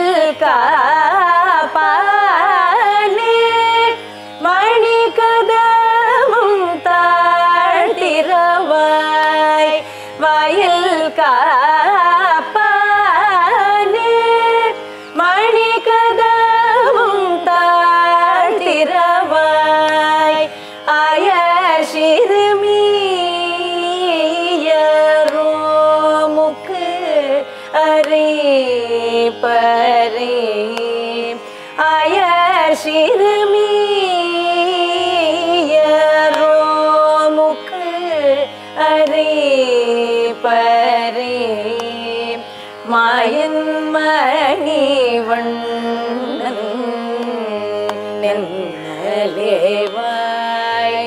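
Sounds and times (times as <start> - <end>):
tanpura drone: 0.0 - 51.0
women singing ornamented melody: 0.0 - 51.0.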